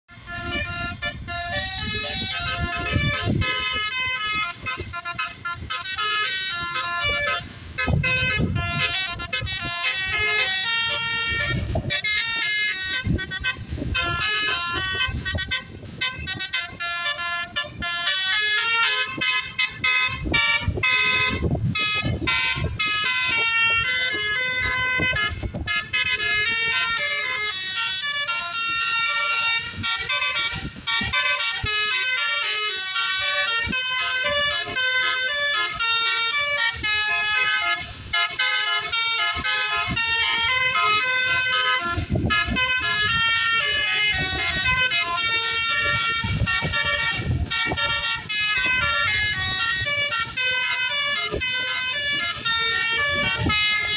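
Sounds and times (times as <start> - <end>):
bus horn playing notes: 0.1 - 53.9.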